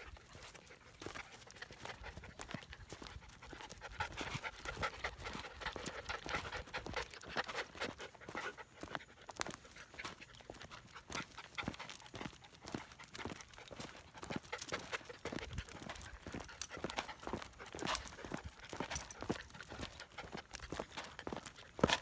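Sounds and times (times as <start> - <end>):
paws and footsteps on path: 0.0 - 22.0
puppies panting: 0.0 - 22.0.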